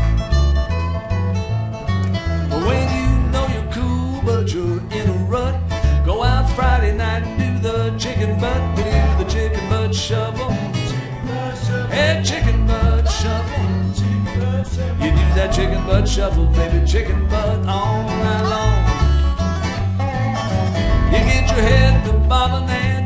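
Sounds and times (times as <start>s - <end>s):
acoustic guitar: 0.0s - 23.0s
resonator guitar sliding melody: 0.0s - 23.0s
upright bass: 0.0s - 23.0s.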